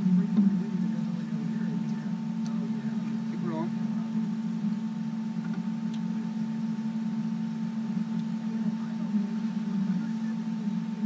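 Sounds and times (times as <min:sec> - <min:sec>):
boat motor running: 0:00.0 - 0:11.0
faint steady whine: 0:00.0 - 0:11.0.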